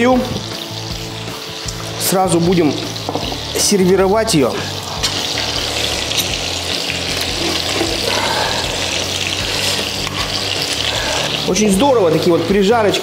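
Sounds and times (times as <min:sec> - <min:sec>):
liver sizzling in a frying pan: 0:00.0 - 0:13.0.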